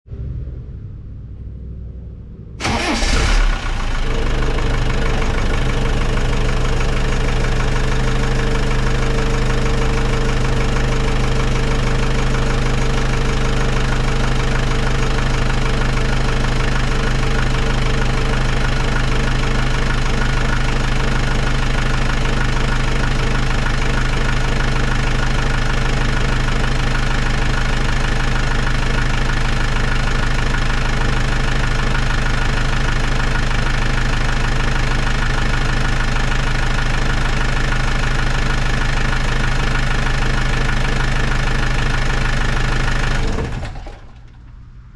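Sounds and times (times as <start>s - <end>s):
diesel engine starting and idling: 2.6s - 44.9s.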